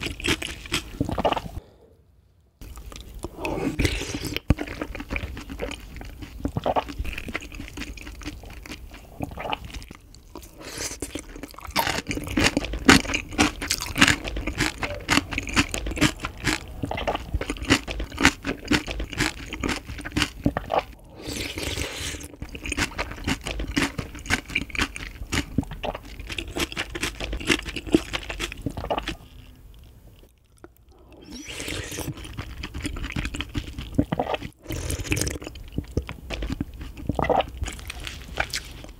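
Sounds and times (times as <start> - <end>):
mouth chewing crunchy food: 0.0 - 1.6, 2.6 - 38.9.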